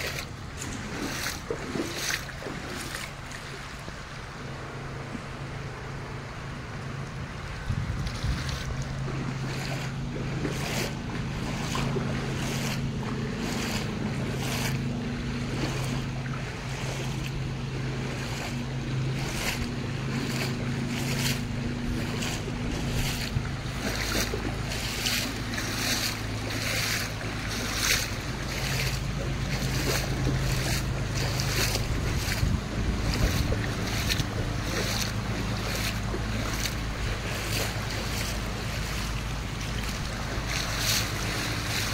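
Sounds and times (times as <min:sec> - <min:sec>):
footsteps splashing in water: 0:00.0 - 0:04.1, 0:06.8 - 0:41.9
water running across road: 0:00.0 - 0:41.9
wind on microphone: 0:07.2 - 0:41.9.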